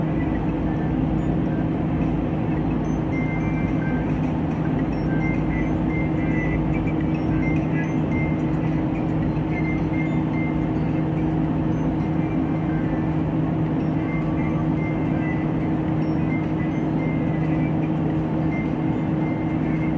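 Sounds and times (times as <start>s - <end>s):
exhaust fan running: 0.0s - 19.9s.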